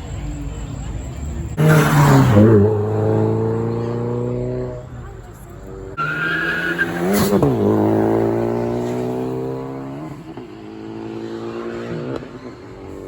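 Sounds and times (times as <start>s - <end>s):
car engine revving: 1.5s - 13.0s.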